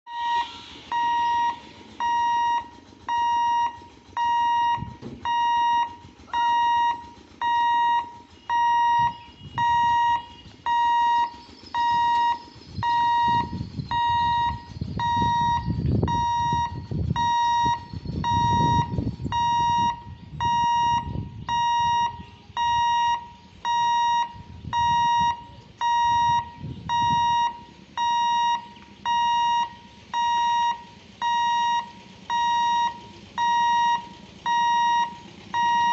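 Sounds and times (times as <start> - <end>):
level crossing warning beeps: 0.1 - 35.9
low rumble: 0.2 - 35.9.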